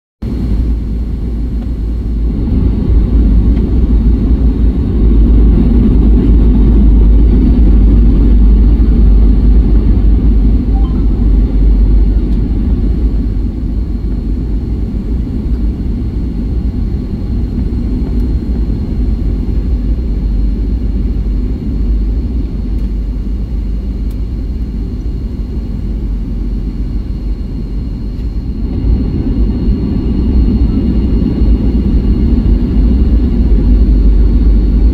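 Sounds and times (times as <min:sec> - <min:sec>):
airliner engines droning: 0:00.2 - 0:34.9.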